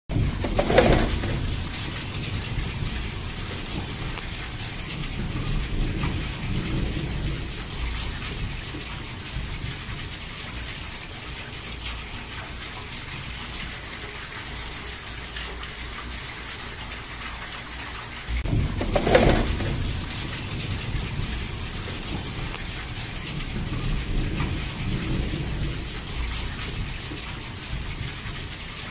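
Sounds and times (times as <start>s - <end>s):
heavy rain pouring on street: 0.1s - 28.9s.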